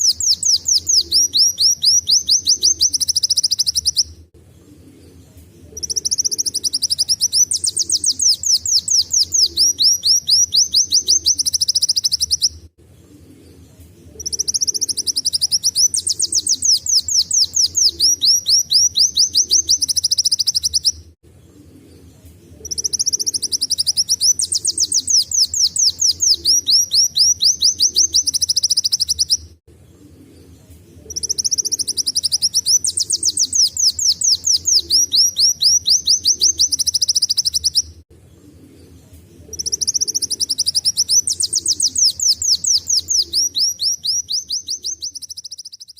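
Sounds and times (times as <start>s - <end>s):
sunbird singing: 0.0s - 4.2s, 4.8s - 12.6s, 13.2s - 45.9s.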